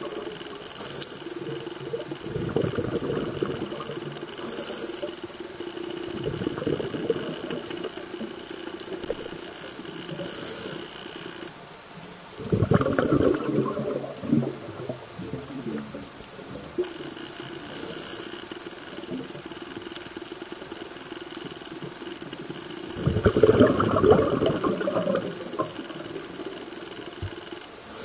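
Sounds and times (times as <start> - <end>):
faint steady hum: 0.0 - 28.0
underwater bubbles gurgling: 0.0 - 28.0.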